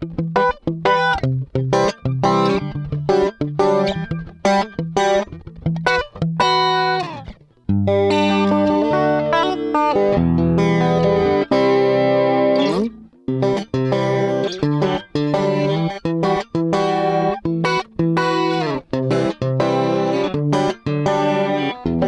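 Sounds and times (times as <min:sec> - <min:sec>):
electric guitar chords: 0:00.0 - 0:22.0.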